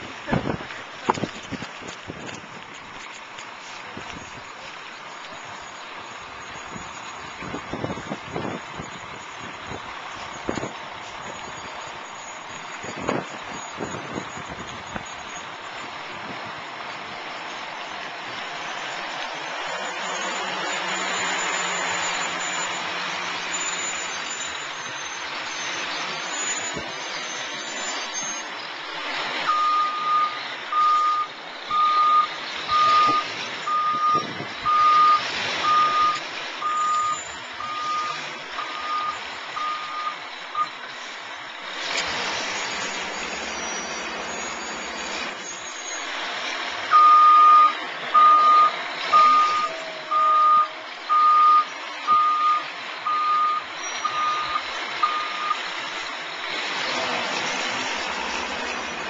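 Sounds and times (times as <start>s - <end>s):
engine and road noise: 0.0s - 59.0s
truck backup alarm beeping: 4.0s - 16.3s, 18.6s - 59.0s.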